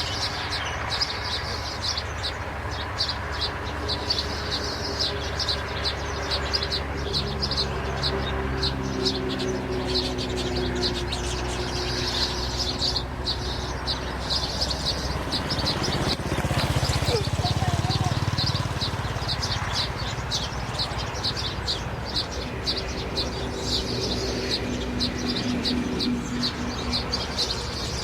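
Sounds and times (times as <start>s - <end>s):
birds chirping: 0.0s - 28.0s
low steady drone: 0.0s - 28.0s.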